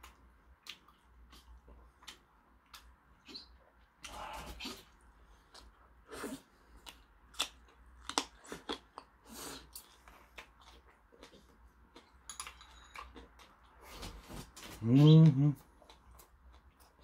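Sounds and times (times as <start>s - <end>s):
person chewing food: 0.0s - 14.8s, 15.5s - 17.0s.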